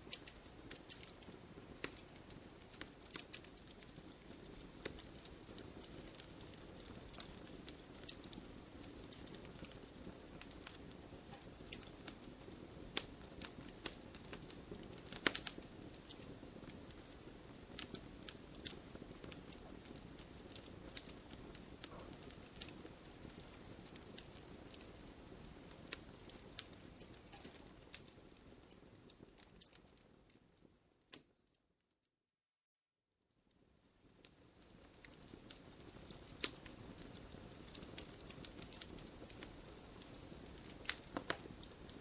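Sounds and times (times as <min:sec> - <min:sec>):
campfire wood crackling and popping: 0:00.0 - 0:31.4, 0:33.5 - 0:42.0
low rush of flame: 0:00.1 - 0:30.7, 0:33.6 - 0:42.0.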